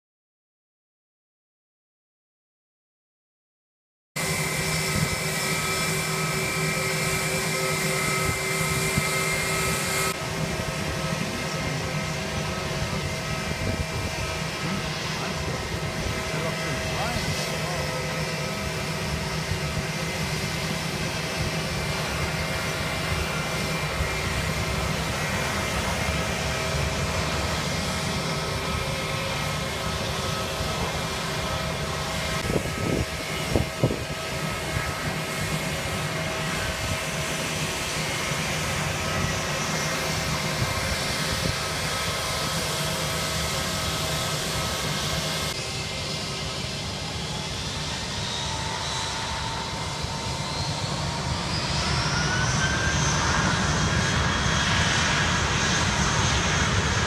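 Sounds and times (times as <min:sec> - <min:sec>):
jet engines running: 0:04.2 - 0:57.0.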